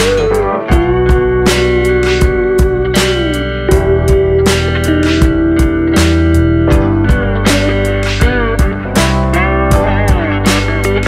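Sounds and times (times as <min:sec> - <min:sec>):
guitar over a steady beat: 0:00.0 - 0:11.0.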